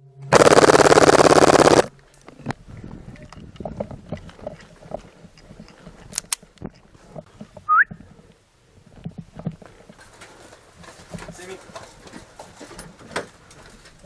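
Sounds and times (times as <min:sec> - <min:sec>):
rustling: 0:01.9 - 0:14.0.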